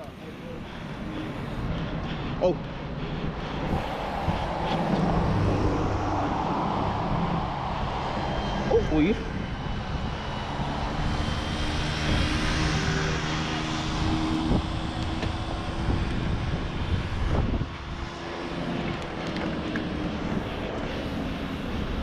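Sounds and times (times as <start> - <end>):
road noise: 0.0 - 22.0
rushing wind: 0.0 - 22.0.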